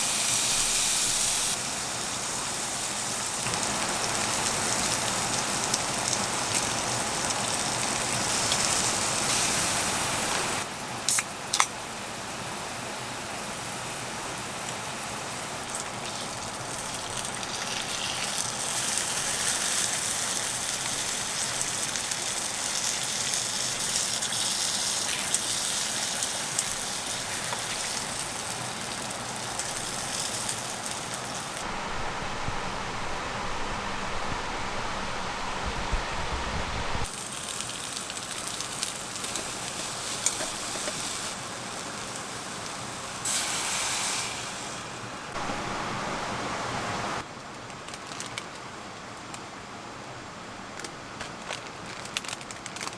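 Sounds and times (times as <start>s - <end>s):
rain hissing: 0.0s - 10.7s, 15.2s - 47.2s.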